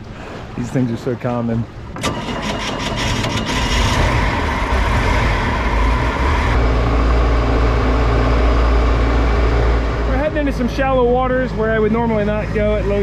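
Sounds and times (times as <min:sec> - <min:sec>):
motorboat engine rumbling: 0:00.0 - 0:13.0.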